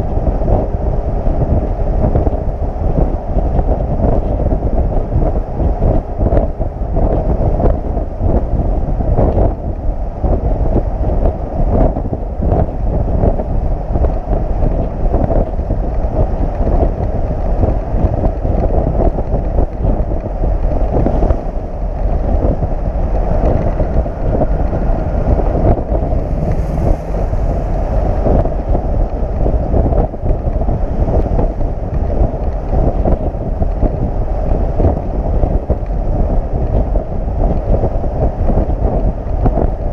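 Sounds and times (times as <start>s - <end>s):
wind buffeting microphone: 0.0s - 39.9s
road and truck rumble: 4.0s - 39.9s.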